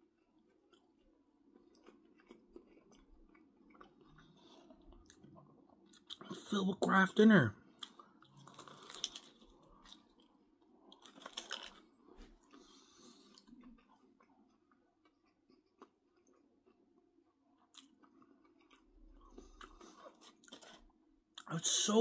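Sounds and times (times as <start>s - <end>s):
man chewing food: 0.0s - 6.4s, 7.6s - 21.5s.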